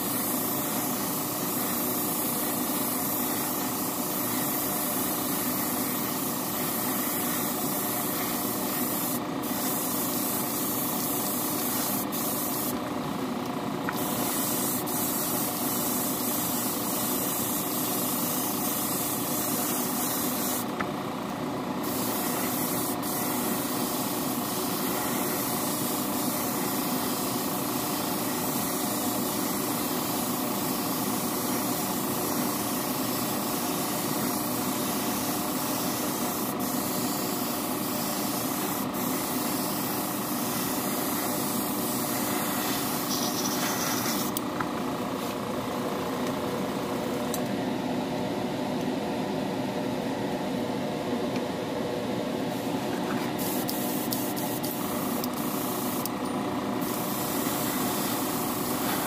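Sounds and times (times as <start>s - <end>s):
airbrush spraying hiss: 0.0s - 12.8s, 13.9s - 20.8s, 21.8s - 46.0s, 52.5s - 56.2s, 56.8s - 59.0s.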